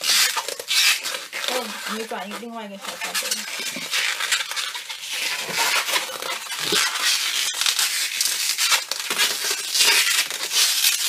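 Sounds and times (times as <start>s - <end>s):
latex balloon squeaking: 0.0s - 11.0s.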